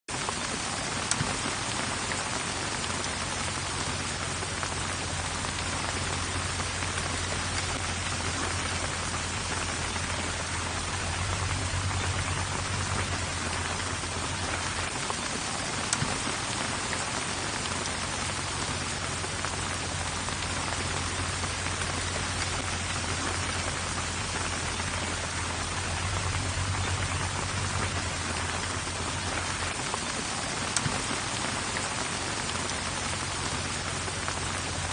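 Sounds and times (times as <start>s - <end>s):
sharp raindrop ticks: 0.1s - 34.9s
steady rain hiss: 0.1s - 34.9s.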